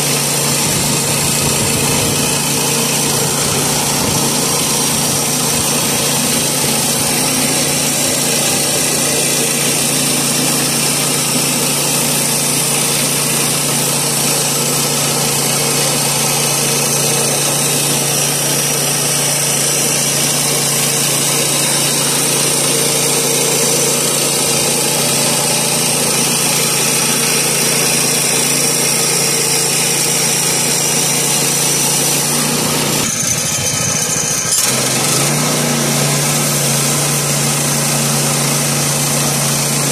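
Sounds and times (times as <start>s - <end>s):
band saw cutting log: 0.0s - 39.9s
engine running under load: 0.0s - 39.9s.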